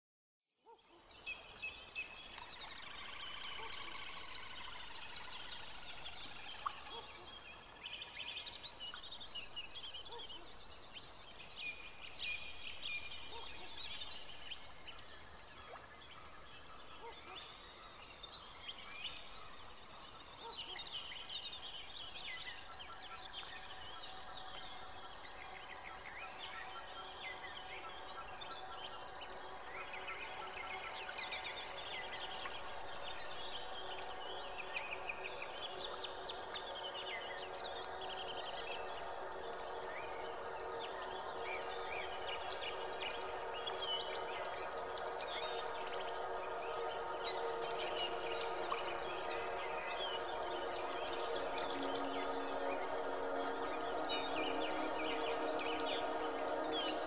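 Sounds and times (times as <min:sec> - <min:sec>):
small birds trilling and chirping: 0:00.7 - 0:57.0.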